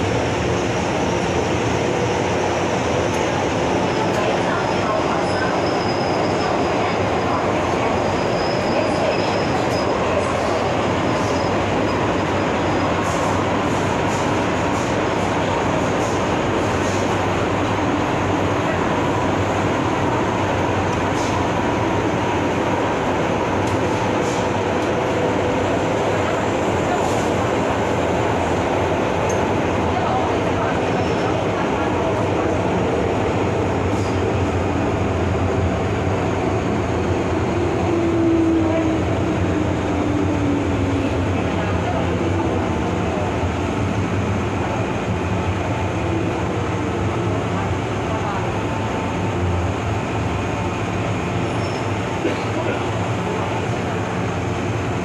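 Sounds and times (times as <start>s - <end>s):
train rumbling through tunnel: 0.0s - 55.0s.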